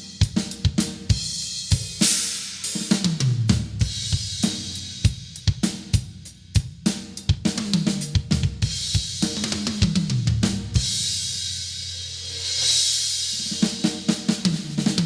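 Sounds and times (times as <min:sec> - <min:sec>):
drum kit playing: 0:00.0 - 0:15.0.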